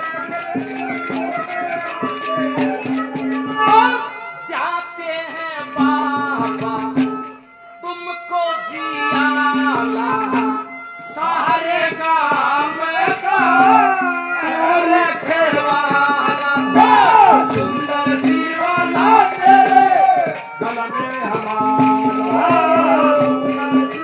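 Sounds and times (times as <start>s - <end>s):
hand drum strokes: 0.0s - 4.0s, 5.8s - 7.3s, 9.1s - 24.0s
held instrumental notes: 0.0s - 24.0s
man singing: 0.0s - 24.0s.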